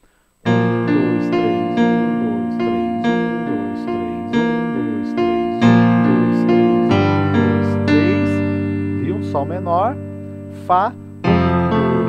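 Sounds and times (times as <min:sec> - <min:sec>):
arpeggiated piano keyboard: 0:00.5 - 0:12.0.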